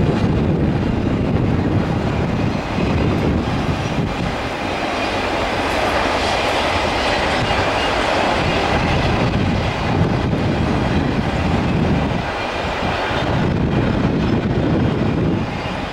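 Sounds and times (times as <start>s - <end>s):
freight train wheels rumbling: 0.0s - 15.9s.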